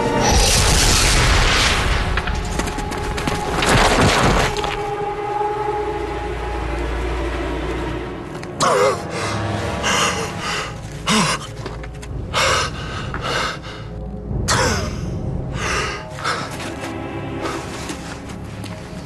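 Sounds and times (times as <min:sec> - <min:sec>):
low dramatic music: 0:00.0 - 0:19.0.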